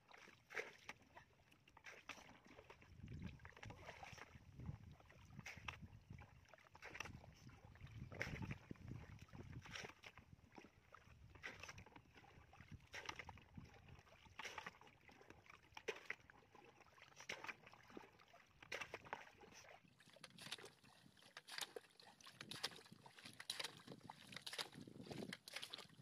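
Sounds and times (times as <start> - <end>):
bucket splashing muddy water: 0.1 - 1.2, 1.8 - 26.0.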